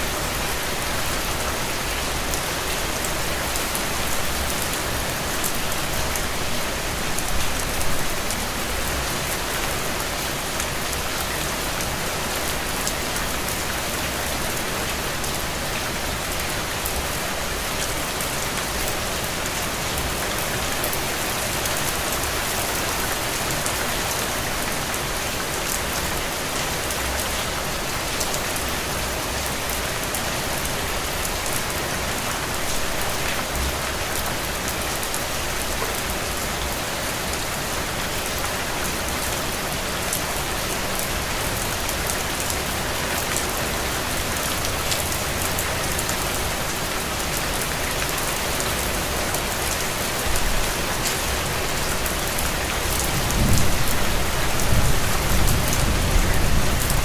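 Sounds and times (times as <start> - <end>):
rain on a window: 0.1 - 57.0.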